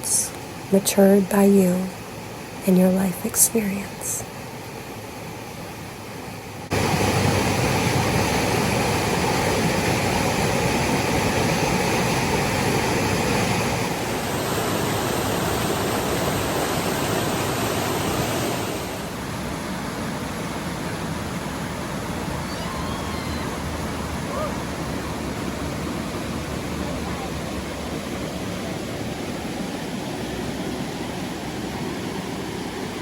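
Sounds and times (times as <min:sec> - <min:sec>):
flowing water rushing: 0:00.0 - 0:33.0.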